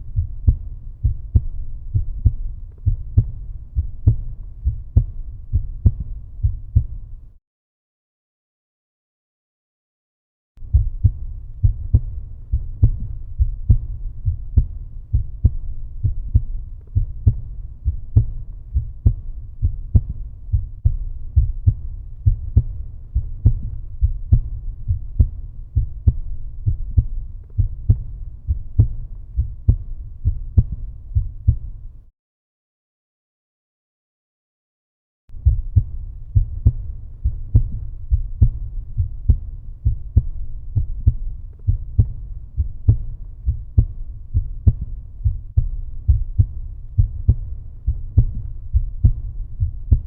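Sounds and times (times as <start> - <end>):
heartbeat thumps: 0.0 - 7.3, 10.6 - 32.0, 35.3 - 50.0.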